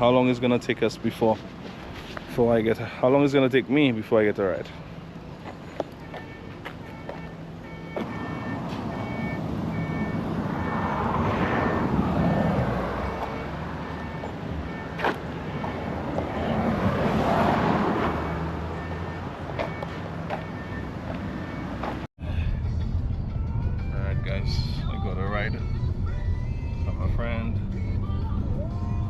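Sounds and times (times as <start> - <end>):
vehicles passing on highway: 0.0 - 29.0.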